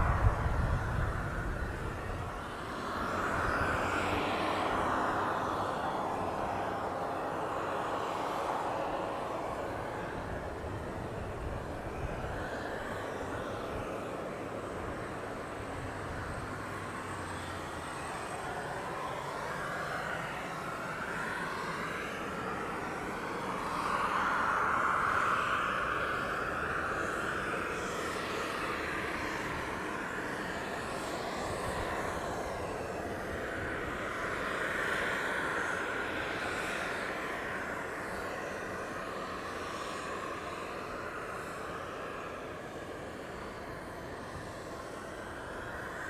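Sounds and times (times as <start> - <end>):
jet engines running: 0.0 - 46.0.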